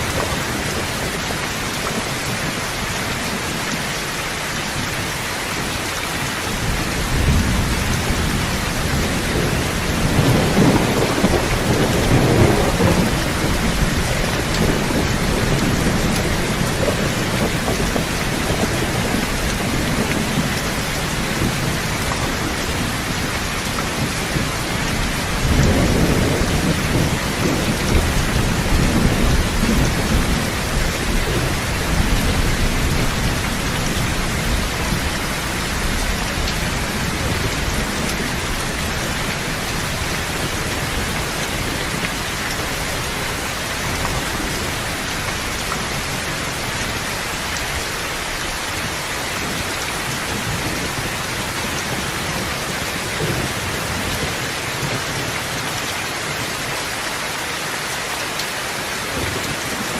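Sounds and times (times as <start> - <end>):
heavy rain hissing: 0.0 - 59.9
thunder rumbling: 5.6 - 55.6.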